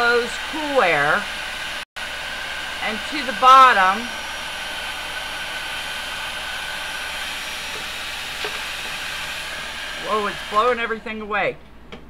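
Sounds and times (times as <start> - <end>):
hair dryer blowing air: 0.0 - 11.3.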